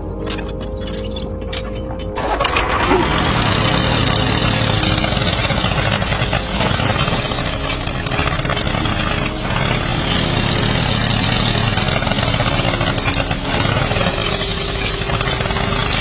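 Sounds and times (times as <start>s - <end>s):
toy vehicle engine drone: 0.0s - 16.0s.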